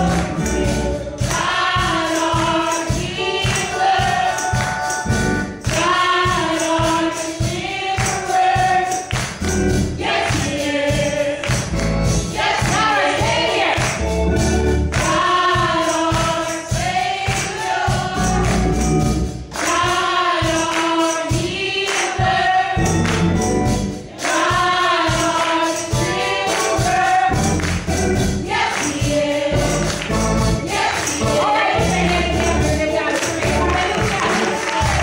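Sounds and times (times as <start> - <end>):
female group gospel singing: 0.0 - 23.4, 24.0 - 35.0
percussion and bass beat: 0.0 - 35.0.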